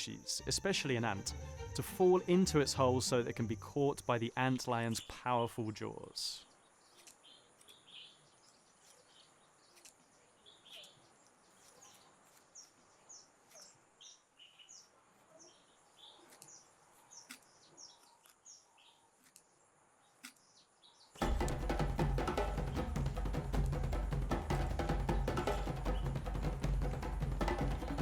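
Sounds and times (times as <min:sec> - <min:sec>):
small birds chirping: 0:00.0 - 0:21.3, 0:25.1 - 0:26.3.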